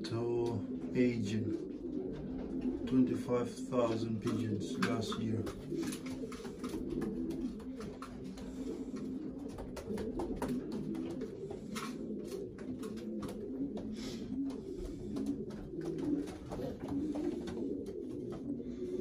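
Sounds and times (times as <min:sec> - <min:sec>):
birds scuffling and clicking: 0:00.0 - 0:19.0
pigeons cooing: 0:00.0 - 0:19.0.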